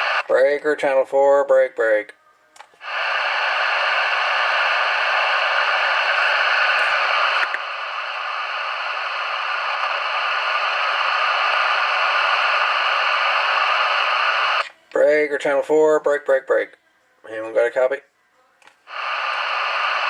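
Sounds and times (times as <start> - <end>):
radio static hiss: 0.0 - 1.0, 2.7 - 16.7, 18.8 - 20.0.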